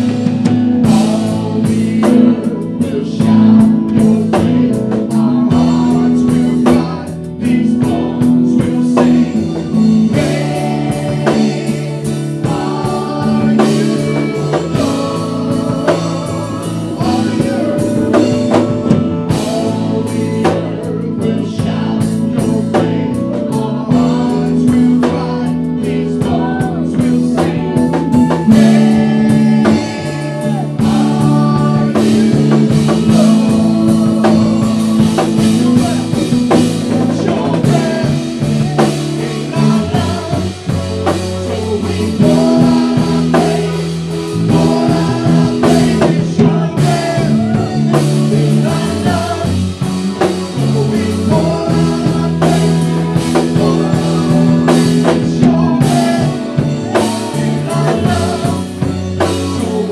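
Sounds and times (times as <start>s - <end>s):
band with drums and guitar: 0.0s - 59.9s
person singing: 0.0s - 59.9s.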